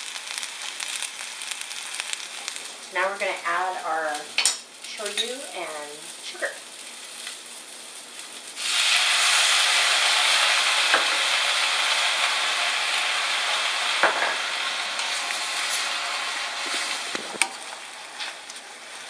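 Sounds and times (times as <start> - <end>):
loud sizzle in a wok: 0.0 - 19.0.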